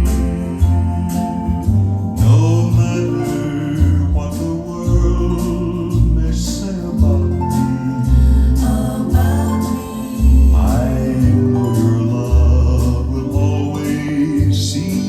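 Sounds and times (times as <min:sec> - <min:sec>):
deep pulsing bass: 0:00.0 - 0:15.0
guitar: 0:00.0 - 0:15.0
person singing: 0:02.1 - 0:15.0.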